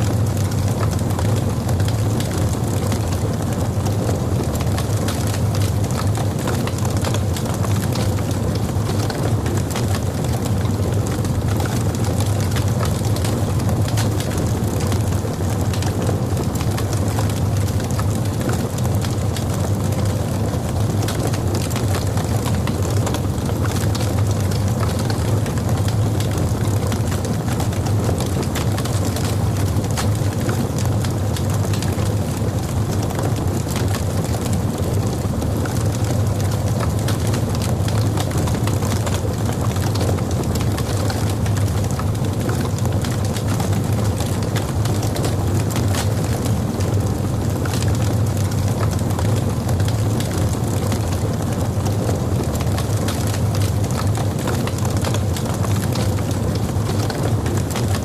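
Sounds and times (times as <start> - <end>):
logs crackling and popping: 0.0 - 58.0
low roar of flames: 0.0 - 58.0.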